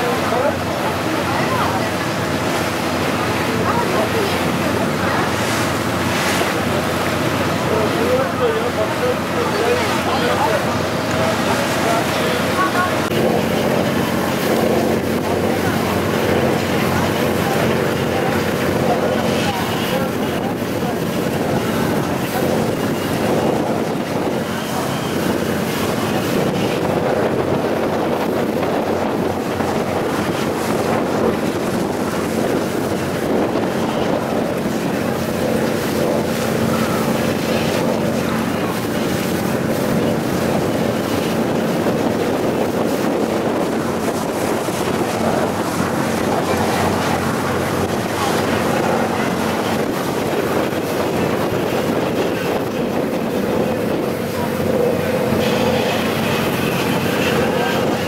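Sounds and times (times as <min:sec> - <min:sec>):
boat engine humming: 0:00.0 - 0:58.0
water rushing past hull: 0:00.0 - 0:58.0
wind buffeting microphone: 0:00.0 - 0:58.0.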